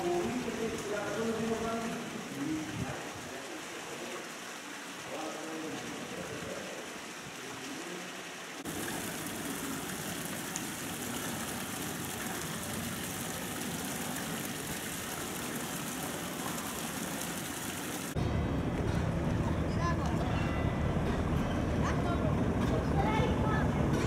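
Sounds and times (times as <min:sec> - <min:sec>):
fountain water splashing: 0:00.0 - 0:24.0
outdoor ambience: 0:00.0 - 0:24.0.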